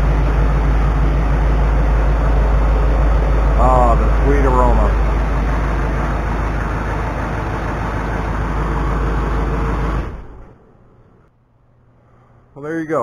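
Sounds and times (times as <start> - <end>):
diesel truck engine running: 0.0 - 11.3.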